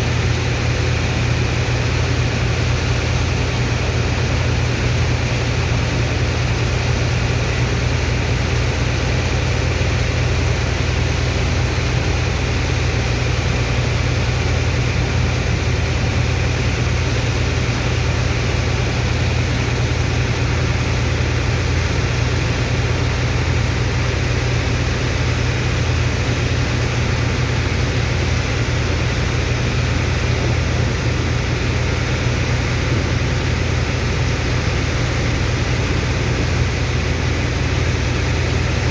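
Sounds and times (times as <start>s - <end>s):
engine and water pump humming: 0.0s - 38.9s.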